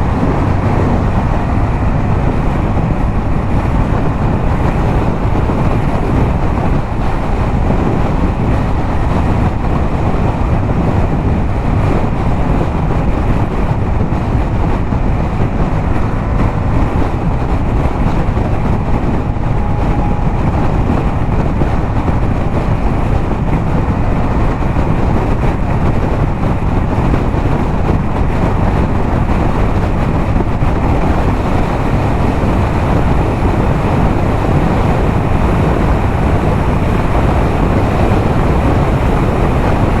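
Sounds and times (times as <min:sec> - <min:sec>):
motorcycle engine cruising: 0:00.0 - 0:40.0
wind rush on microphone: 0:00.0 - 0:40.0.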